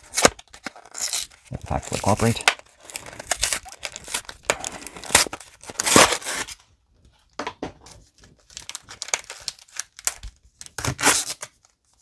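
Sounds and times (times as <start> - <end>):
plastic packaging tearing and crinkling: 0.0 - 6.6, 8.2 - 11.7.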